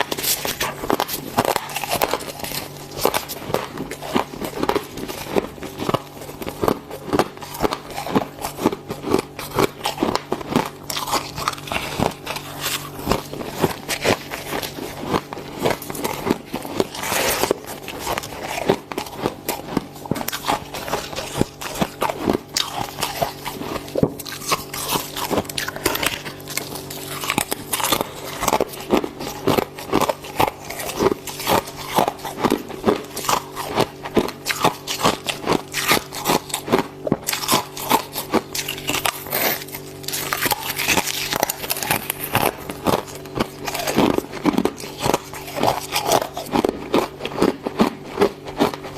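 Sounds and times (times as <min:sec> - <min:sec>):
chewing crunchy ice: 0:00.0 - 0:48.9.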